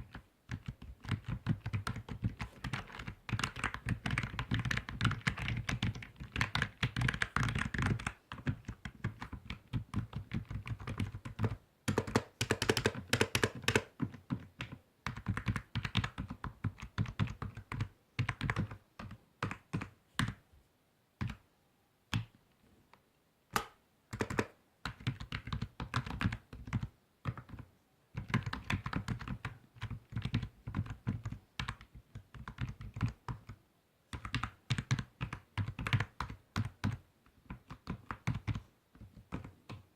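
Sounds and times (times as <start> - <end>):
typing on computer keyboard: 0.0 - 20.4, 23.6 - 39.9.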